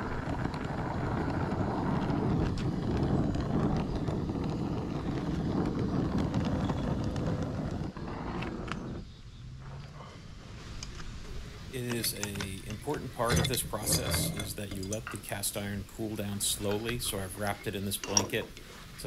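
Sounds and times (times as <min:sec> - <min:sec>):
torch flame roaring: 0:00.0 - 0:19.0.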